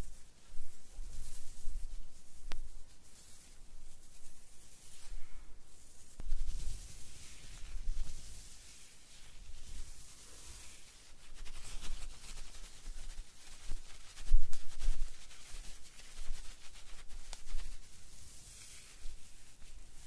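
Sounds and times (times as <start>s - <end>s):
gloves rubbing on microphone: 0.0s - 20.0s.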